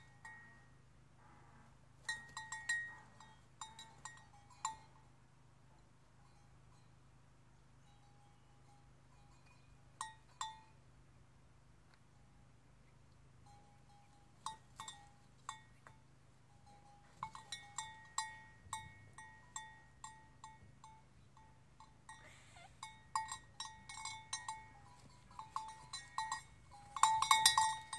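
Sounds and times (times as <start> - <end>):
sheep bell clanking: 0.0 - 0.8, 2.0 - 5.2, 6.1 - 7.2, 7.8 - 10.8, 13.4 - 27.9.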